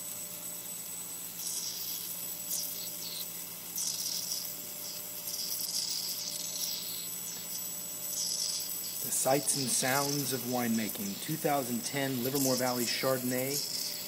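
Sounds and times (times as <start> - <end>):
faint steady hum: 0.0 - 14.0
gas hissing spurts: 1.3 - 14.0.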